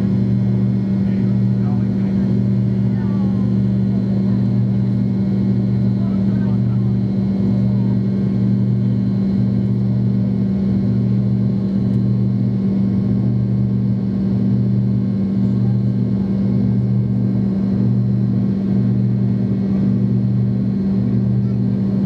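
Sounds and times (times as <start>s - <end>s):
airplane cabin drone: 0.0s - 22.0s.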